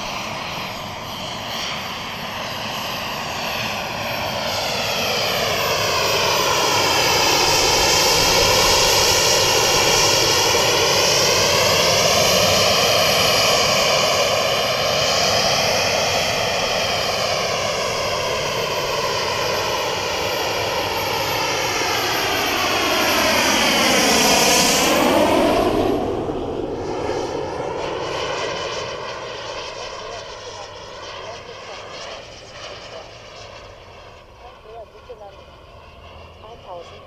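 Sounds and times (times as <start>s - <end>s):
jet turbine fly-past: 0.0s - 37.0s.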